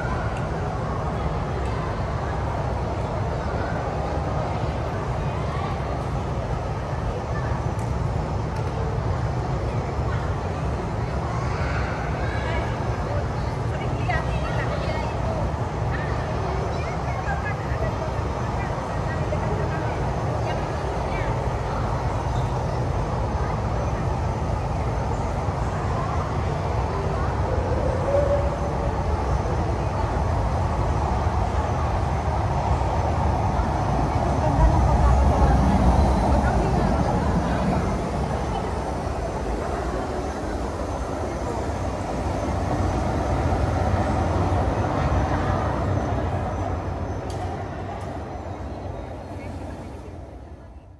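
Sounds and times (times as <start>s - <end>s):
murmur of crowd voices: 0.0s - 50.9s.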